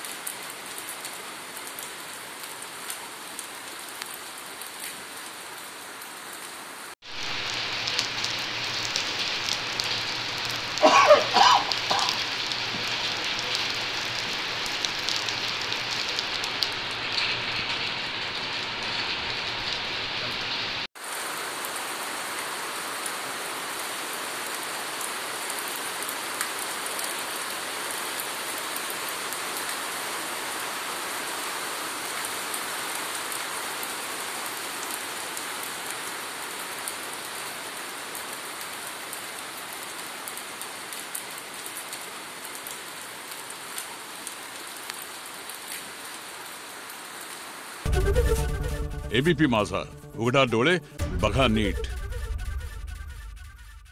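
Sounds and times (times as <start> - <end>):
rain on wet paving and foliage: 0.0 - 49.8.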